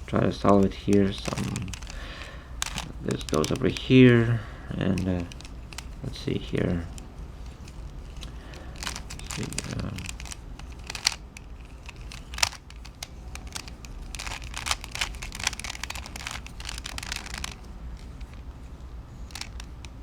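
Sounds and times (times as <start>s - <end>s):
puzzle cube clicking and rasping: 0.0s - 20.0s
sharp plastic clacks: 0.0s - 20.0s.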